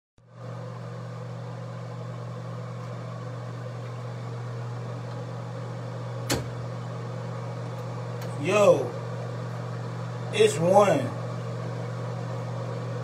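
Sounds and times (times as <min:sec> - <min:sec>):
low mechanical hum: 0:00.2 - 0:13.0.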